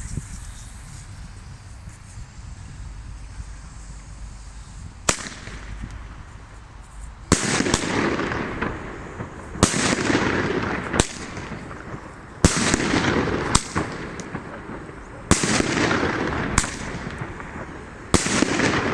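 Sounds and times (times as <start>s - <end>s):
firework bang: 0.0s - 18.9s
firework launches with rush: 0.0s - 18.9s.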